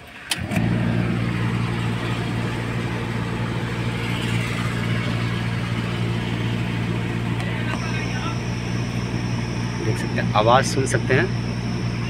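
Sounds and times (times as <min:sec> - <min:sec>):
car blower fan droning: 0:00.0 - 0:12.0.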